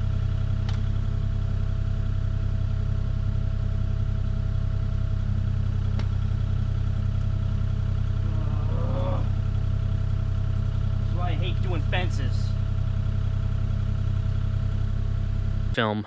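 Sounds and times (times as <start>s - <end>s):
engine droning steadily: 0.0s - 16.0s.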